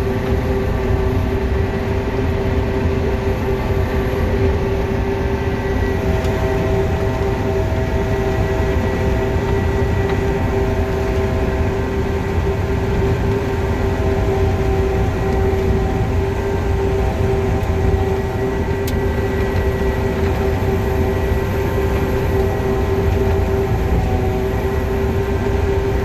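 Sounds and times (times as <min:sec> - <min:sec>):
combine harvester engine rumble: 0:00.0 - 0:26.0.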